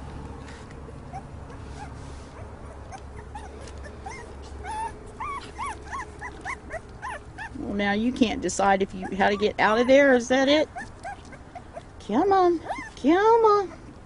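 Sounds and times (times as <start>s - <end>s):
puppy whimpering: 1.0s - 7.8s, 8.8s - 14.0s.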